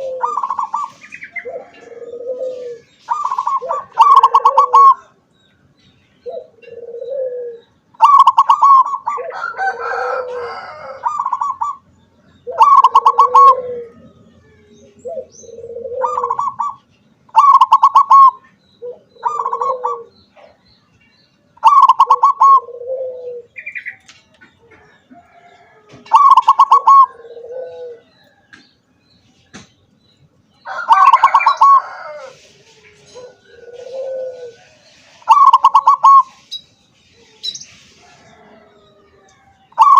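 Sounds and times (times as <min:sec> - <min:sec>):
dove cooing: 0:00.0 - 0:05.2, 0:06.2 - 0:20.6, 0:21.6 - 0:28.5, 0:30.7 - 0:36.6, 0:37.2 - 0:39.9.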